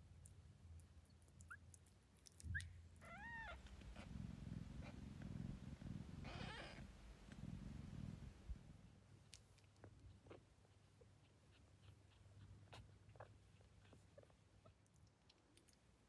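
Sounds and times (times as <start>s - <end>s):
cat purring: 3.0s - 16.0s.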